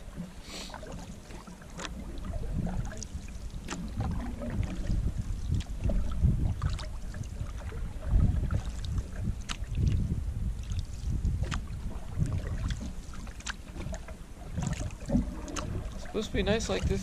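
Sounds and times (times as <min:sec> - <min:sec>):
paddle strokes swishing water: 0:00.0 - 0:17.0
wind rumbling on microphone: 0:00.0 - 0:17.0.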